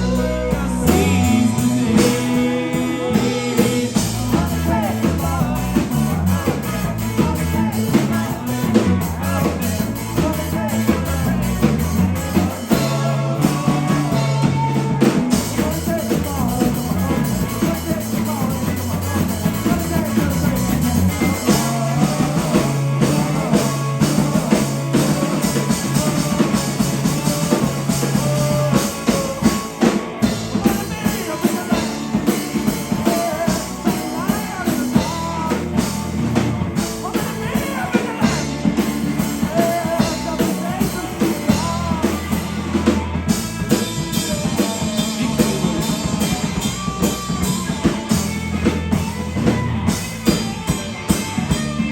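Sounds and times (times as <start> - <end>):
live rock band playing: 0.0 - 51.9
person singing: 0.0 - 51.9.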